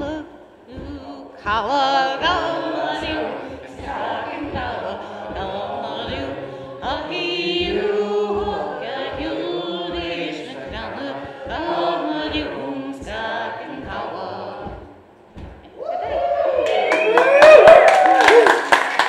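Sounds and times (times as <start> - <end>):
group singing: 0.0 - 16.2.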